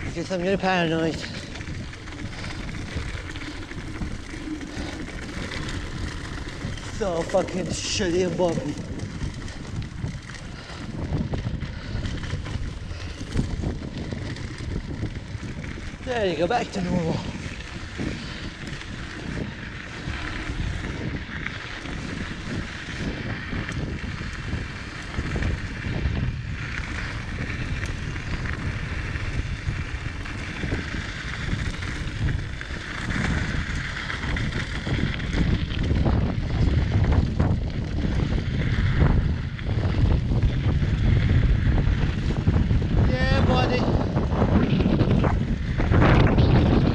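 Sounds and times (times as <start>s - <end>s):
bike knocking and rattling: 0.0s - 46.9s
tyres rumbling on dirt: 0.0s - 46.9s
wind buffeting microphone: 0.0s - 46.9s.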